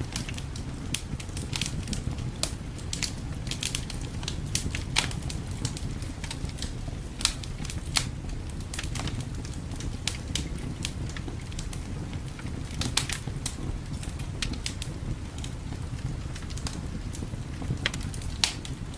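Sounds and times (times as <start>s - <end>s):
low fire rumble: 0.0s - 18.9s
wood fire crackling and popping: 0.0s - 18.9s.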